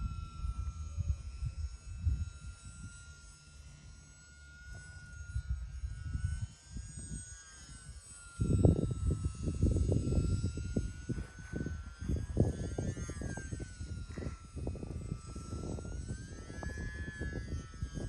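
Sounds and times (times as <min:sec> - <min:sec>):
wind buffeting microphone: 0:00.0 - 0:04.0, 0:04.6 - 0:18.0
model plane motor whine: 0:00.0 - 0:18.0.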